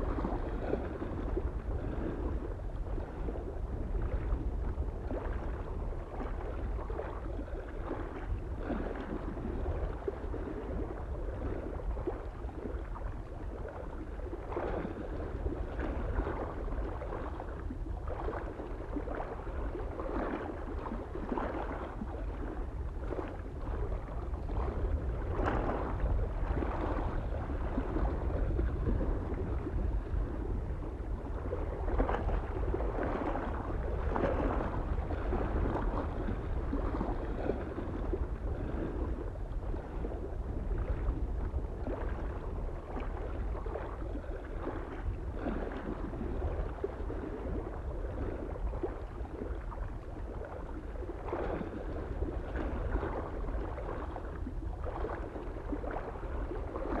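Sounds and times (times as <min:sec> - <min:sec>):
small waves lapping on shore: 0:00.0 - 0:57.0
wind on microphone: 0:00.0 - 0:57.0.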